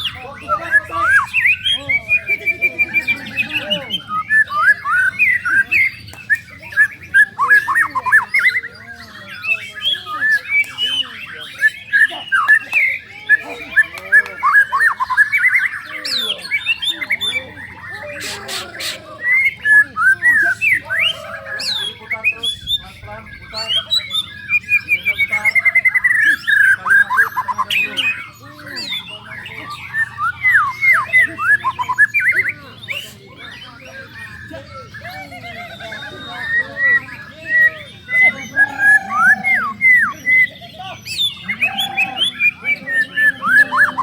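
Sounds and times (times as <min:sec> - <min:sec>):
birds chirping and warbling: 0:00.0 - 0:44.0
songbirds singing: 0:00.0 - 0:44.0.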